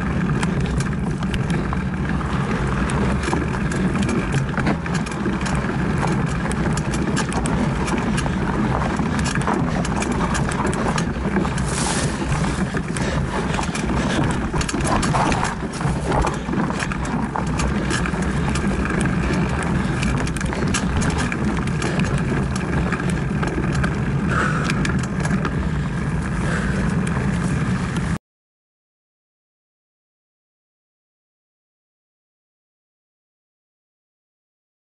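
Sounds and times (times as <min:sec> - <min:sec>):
bike clicking and rattling: 0:00.0 - 0:28.2
bike tyres rumbling on dirt: 0:00.0 - 0:28.2
wind: 0:00.0 - 0:28.2.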